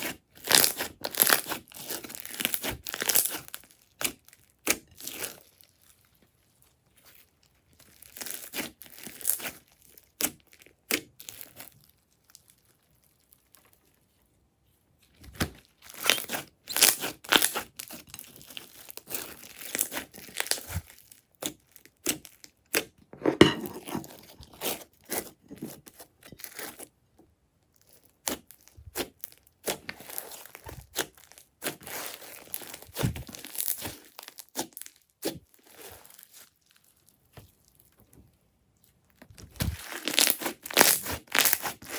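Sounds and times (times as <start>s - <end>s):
crunchy slime crackling: 0.0s - 14.2s, 15.1s - 27.0s, 27.7s - 38.2s, 38.8s - 41.9s.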